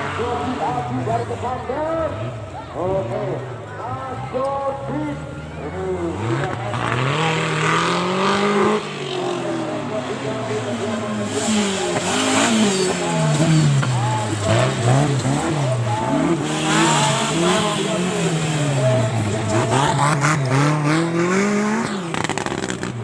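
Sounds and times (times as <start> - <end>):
off-road engine revving: 0.0 - 23.0.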